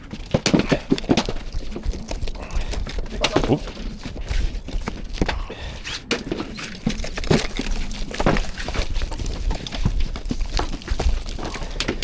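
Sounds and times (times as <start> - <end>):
knocks and clatters of dismantling: 0.0 - 12.0.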